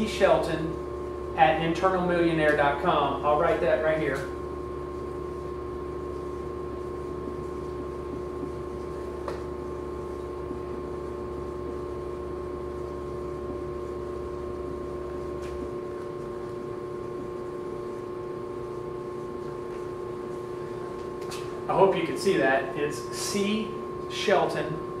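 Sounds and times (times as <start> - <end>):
room hum: 0.0 - 25.0.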